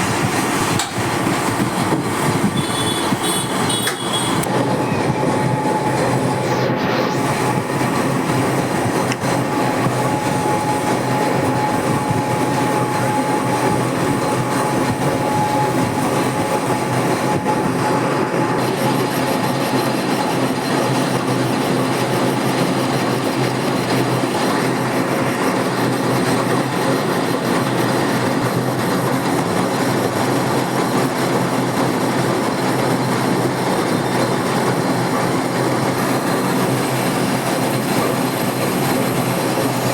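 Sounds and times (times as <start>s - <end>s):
lathe running: 0.0s - 39.9s.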